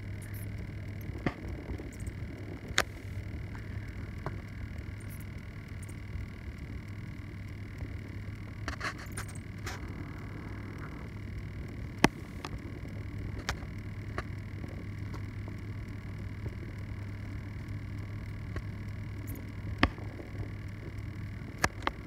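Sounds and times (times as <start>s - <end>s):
low hum and hiss: 0.0s - 22.0s.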